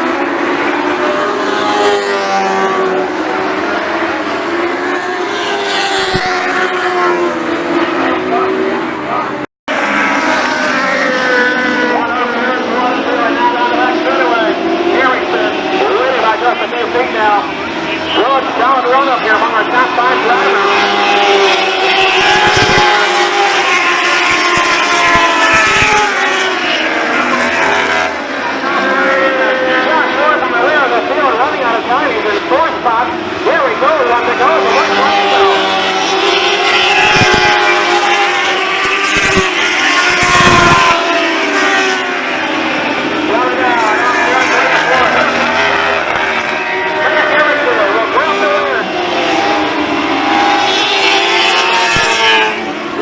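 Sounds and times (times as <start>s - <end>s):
race car engines passing: 0.0s - 53.0s.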